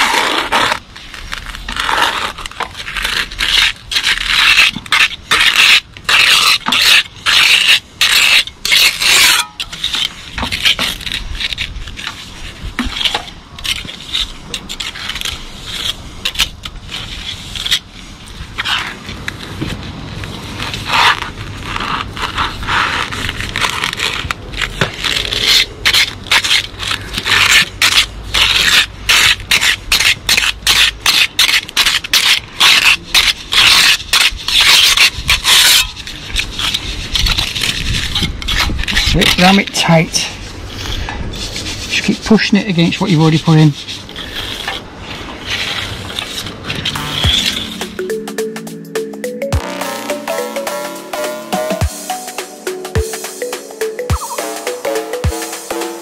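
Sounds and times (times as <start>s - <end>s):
trowel scraping mortar: 0.0s - 19.7s, 20.6s - 48.0s.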